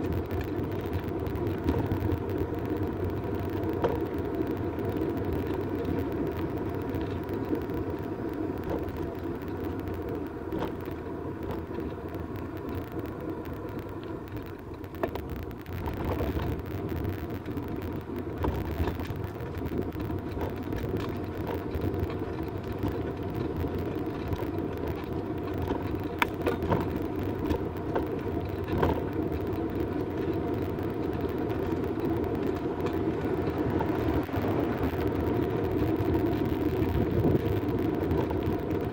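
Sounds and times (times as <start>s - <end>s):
bicycle clicks and knocks: 0.0s - 38.9s
bicycle tyres rolling: 0.0s - 38.9s
wind noise: 0.0s - 38.9s.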